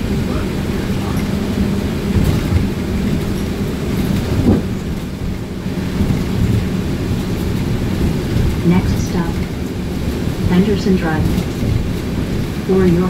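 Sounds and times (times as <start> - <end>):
bus bump: 0.0 - 13.0
bus cabin rumble: 0.0 - 13.0
engine hum: 0.0 - 13.0
rain on windows: 0.0 - 13.0
tyres on wet road: 0.0 - 13.0.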